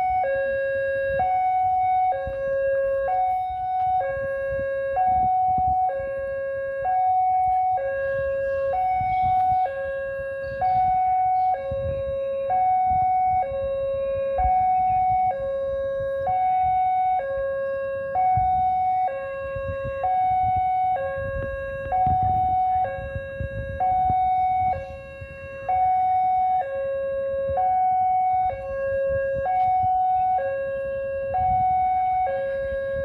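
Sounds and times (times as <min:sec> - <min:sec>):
two-tone level crossing alarm: 0:00.0 - 0:33.0.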